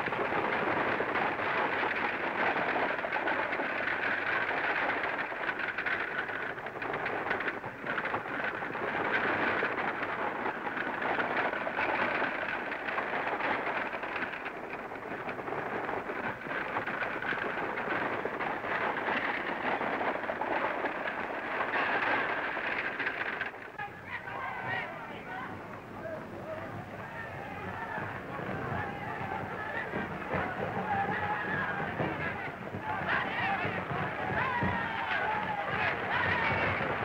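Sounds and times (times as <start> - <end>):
crackling film soundtrack hiss: 0.0 - 37.0.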